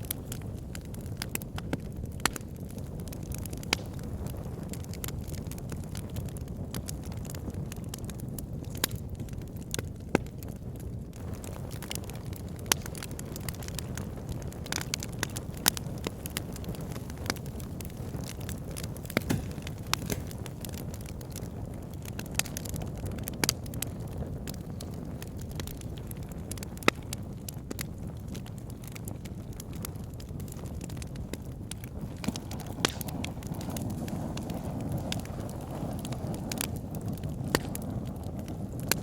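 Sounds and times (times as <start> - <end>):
burning logs crackling and popping: 0.0 - 39.0
fire rumbling: 0.0 - 39.0.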